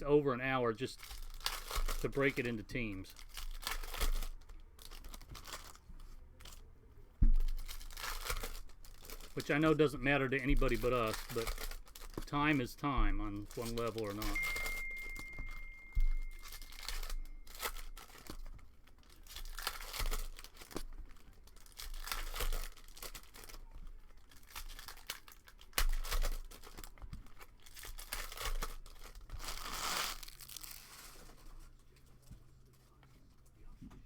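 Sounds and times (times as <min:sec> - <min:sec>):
card packaging torn and crinkled: 0:00.8 - 0:06.7, 0:07.4 - 0:32.0.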